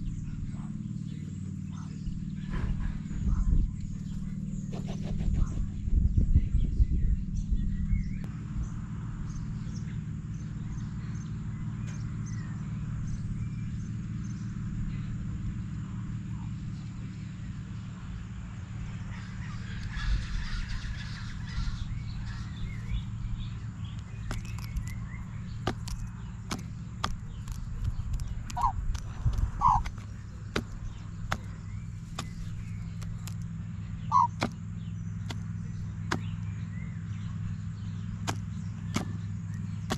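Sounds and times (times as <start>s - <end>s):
birds calling: 0.0s - 39.9s
low rumble: 0.0s - 39.9s.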